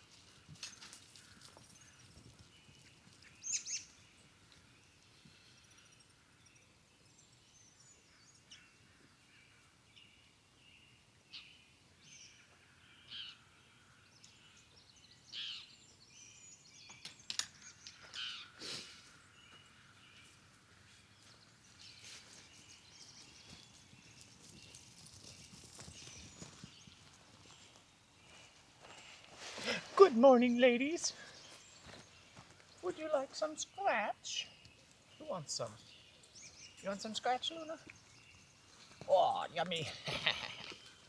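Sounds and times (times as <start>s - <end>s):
wild birds chirping: 0.0s - 41.0s.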